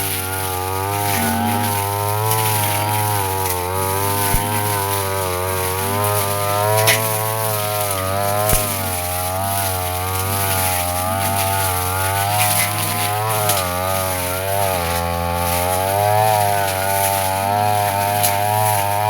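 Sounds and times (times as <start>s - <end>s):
blade cutting grass: 0.0s - 19.0s
brush cutter engine running: 0.0s - 19.0s.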